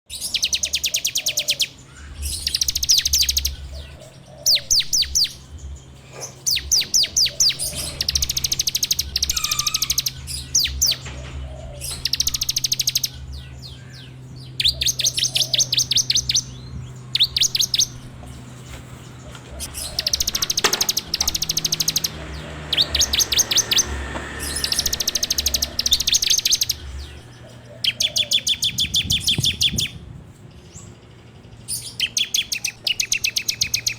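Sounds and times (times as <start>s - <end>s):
bird singing rapid trill: 0.1s - 18.5s, 19.1s - 30.0s, 30.6s - 33.9s.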